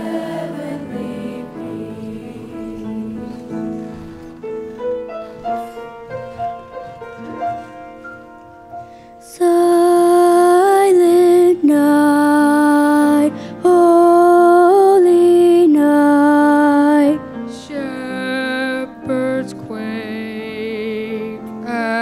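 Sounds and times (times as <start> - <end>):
soft piano playing: 0.0 - 22.0.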